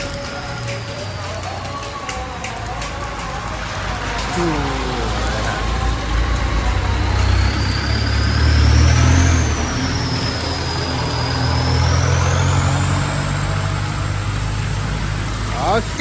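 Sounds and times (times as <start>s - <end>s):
rain hissing: 0.0s - 16.0s
vehicle engine rumbling: 0.0s - 16.0s.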